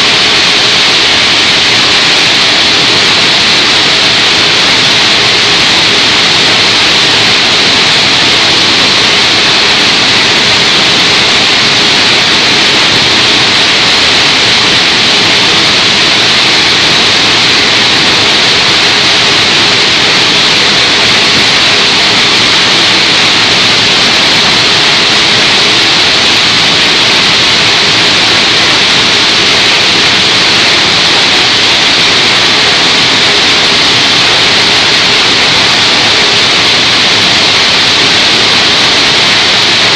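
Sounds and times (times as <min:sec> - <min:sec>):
hydraulic baler hissing: 0:00.0 - 0:39.9.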